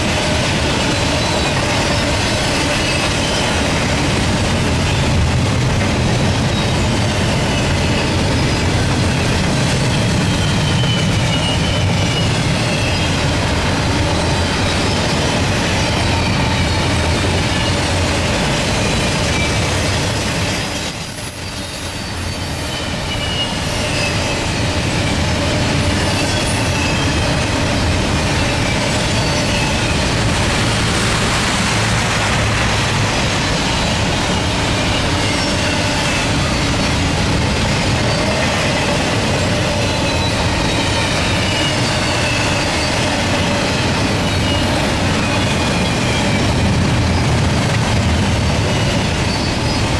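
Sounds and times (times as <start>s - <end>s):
train wheels rumbling on rail: 0.0s - 49.9s
high wheel squeals: 0.1s - 3.8s, 6.4s - 49.9s.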